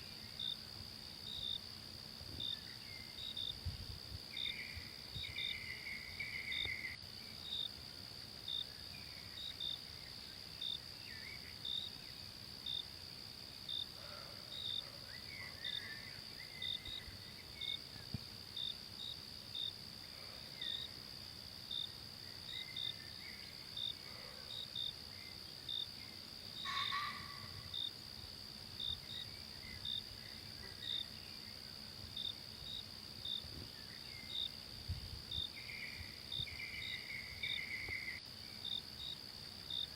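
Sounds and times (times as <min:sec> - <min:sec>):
cricket chirps: 0:00.0 - 0:39.9
insects droning: 0:00.0 - 0:39.9.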